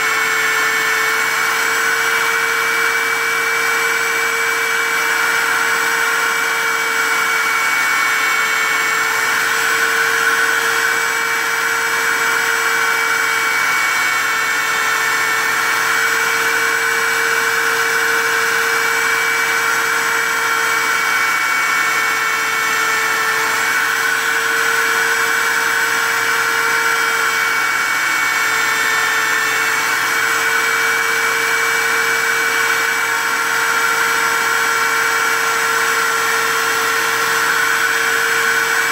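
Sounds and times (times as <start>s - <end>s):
milling machine whine: 0.0s - 38.9s.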